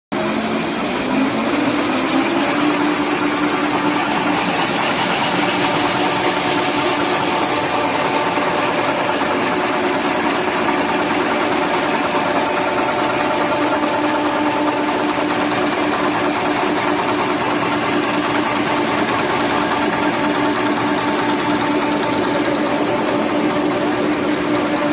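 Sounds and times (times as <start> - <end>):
tissue machine running with hum: 0.2 - 24.9.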